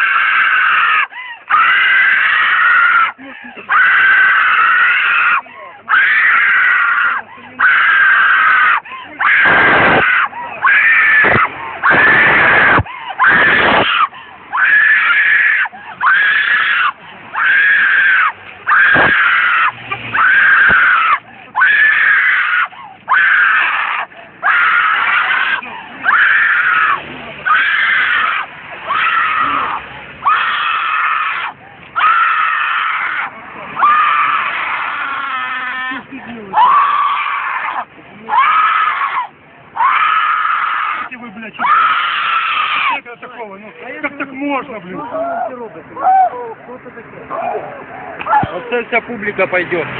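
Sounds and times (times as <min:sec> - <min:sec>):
woman screaming: 0:00.0 - 0:43.0.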